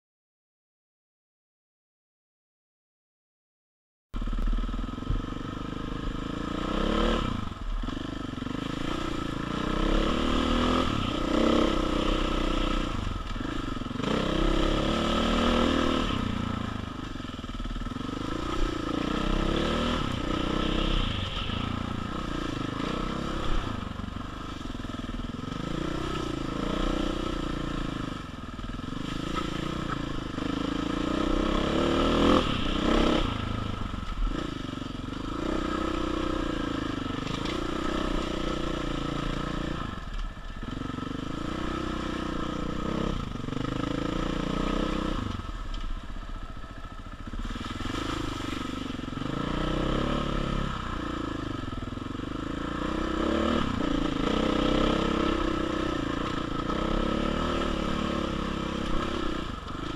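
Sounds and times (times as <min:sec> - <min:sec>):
dirt bike engine revving: 0:04.2 - 0:45.5, 0:47.2 - 0:59.9.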